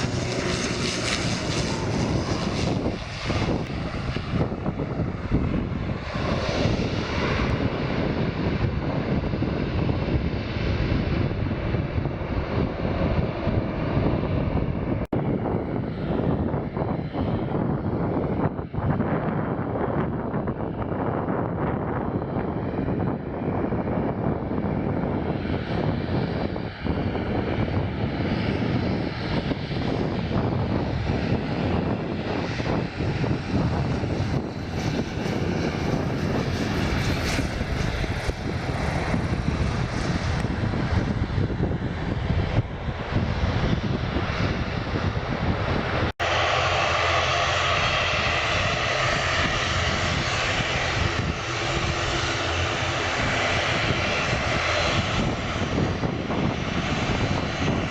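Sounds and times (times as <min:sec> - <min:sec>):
aircraft engines running: 0:00.0 - 0:57.9
wind buffeting microphone: 0:00.0 - 0:57.9.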